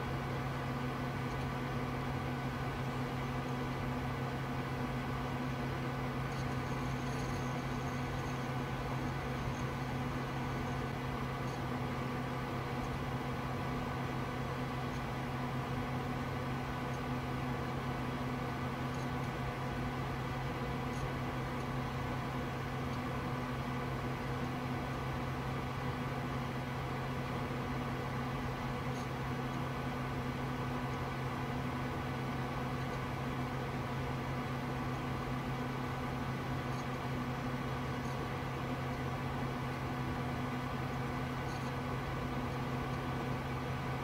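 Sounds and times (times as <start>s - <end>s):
computer fans humming: 0.0s - 44.0s
fan hiss: 0.0s - 44.0s.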